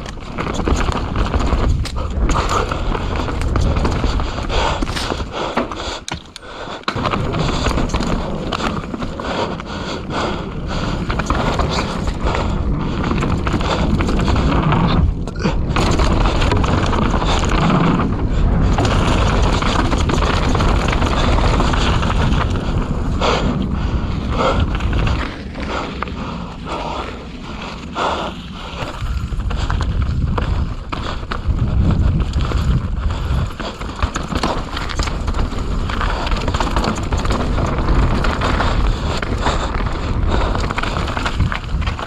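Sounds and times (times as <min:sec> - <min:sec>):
wind rushing over microphone: 0:00.0 - 0:06.0, 0:06.9 - 0:42.0
bike knocking and rattling: 0:00.0 - 0:42.0
bike tyre noise: 0:00.0 - 0:42.0.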